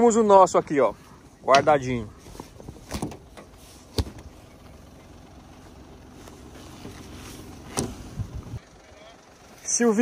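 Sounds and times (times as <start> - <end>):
small truck engine running: 0.0 - 10.0.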